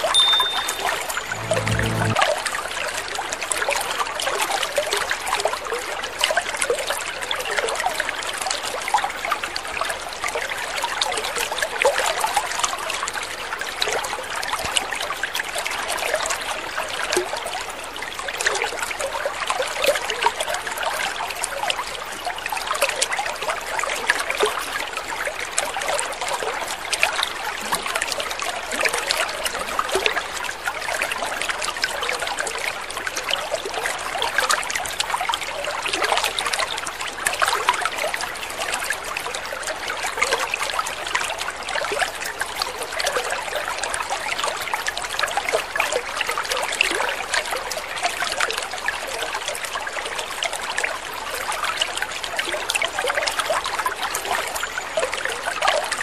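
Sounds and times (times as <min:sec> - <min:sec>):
water trickling and splashing: 0:04.4 - 0:56.0.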